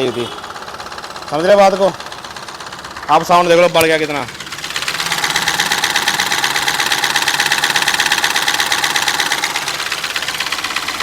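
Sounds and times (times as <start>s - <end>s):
diesel engine idling with tapping knock: 0.0s - 11.0s.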